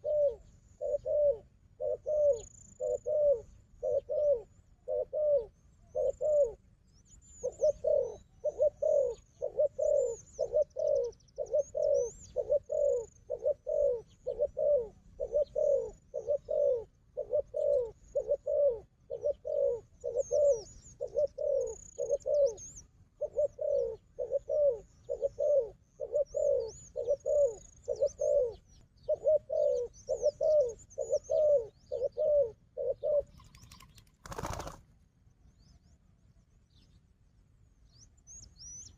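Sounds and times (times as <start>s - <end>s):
dove cooing: 0.0s - 6.7s, 7.3s - 34.8s
small birds chirping: 0.0s - 37.1s, 37.7s - 38.9s.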